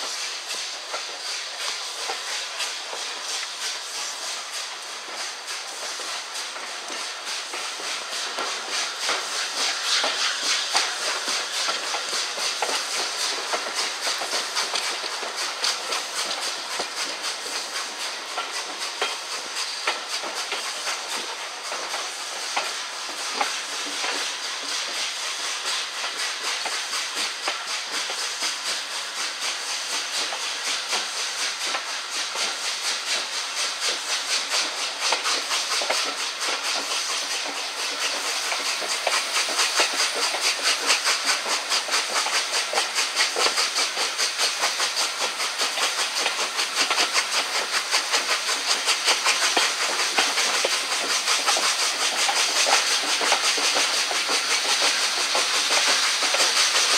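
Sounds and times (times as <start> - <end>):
steady steam hiss: 0.0 - 56.9
steam locomotive exhaust beats: 0.0 - 56.9.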